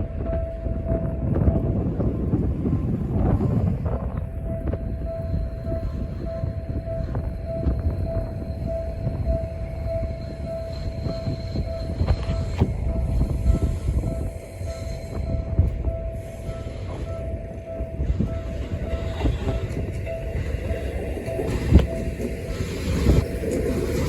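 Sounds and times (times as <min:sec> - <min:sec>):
train rumbling past: 0:00.0 - 0:24.0
level crossing alarm dinging: 0:03.9 - 0:24.0.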